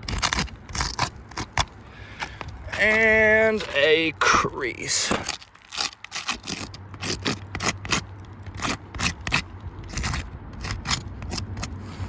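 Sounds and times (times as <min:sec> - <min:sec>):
scraping on roof shingles: 0:00.0 - 0:12.0.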